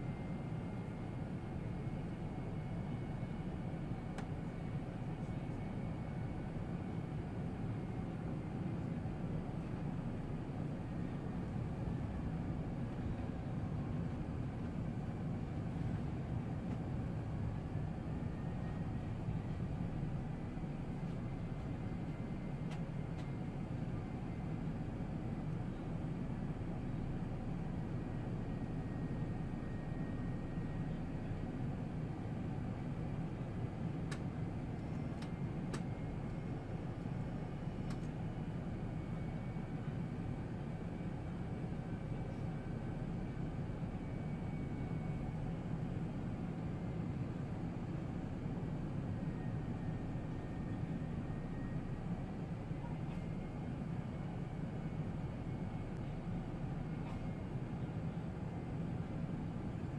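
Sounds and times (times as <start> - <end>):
airliner rumble climbing: 0.0 - 59.9.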